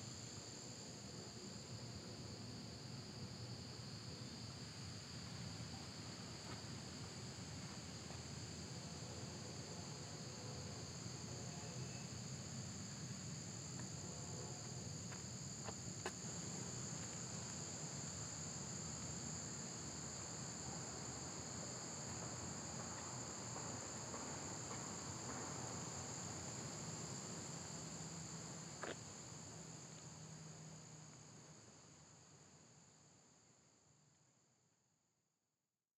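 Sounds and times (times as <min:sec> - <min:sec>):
insects chorus high-pitched tones: 0:00.0 - 0:33.2.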